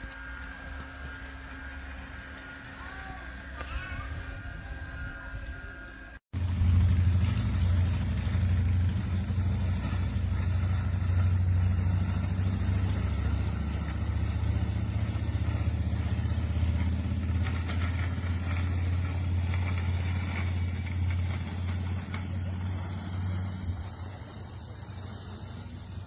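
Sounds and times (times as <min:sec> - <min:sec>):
robotic lawn mower humming: 0:00.0 - 0:26.0.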